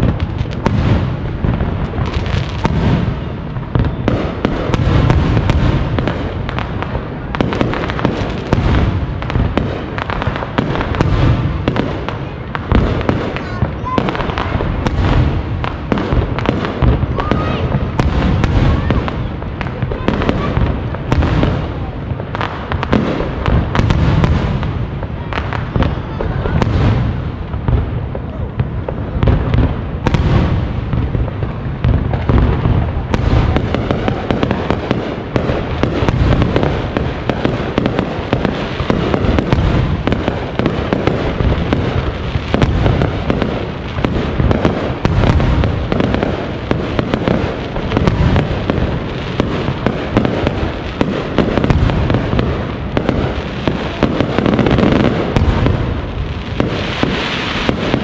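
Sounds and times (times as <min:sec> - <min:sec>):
fireworks booms: 0:00.0 - 0:58.0
fireworks crackling and popping: 0:00.0 - 0:58.0.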